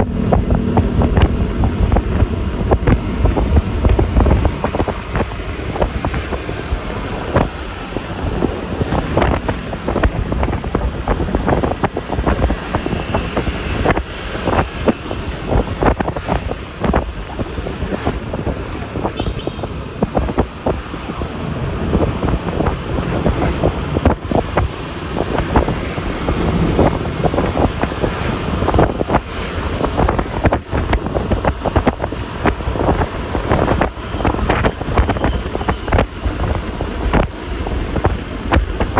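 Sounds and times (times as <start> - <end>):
scooter engine: 0.0 - 38.9
tyre and road noise: 0.0 - 38.9
wind buffeting microphone: 0.0 - 38.9.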